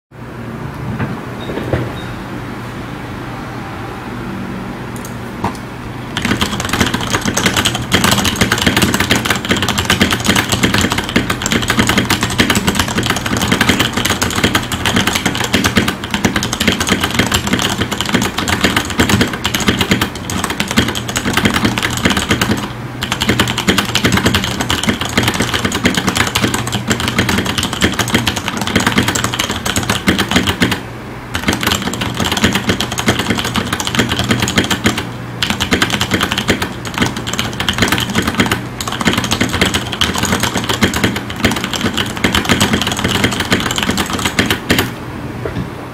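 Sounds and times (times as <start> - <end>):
steady low hum: 0.2 - 45.9
mechanical keyboard typing: 6.1 - 44.9.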